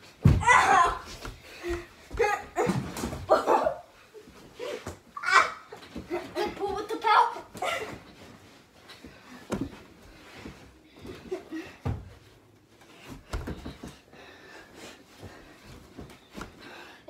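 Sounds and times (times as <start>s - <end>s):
bedding and toys rustling: 0.0s - 17.0s.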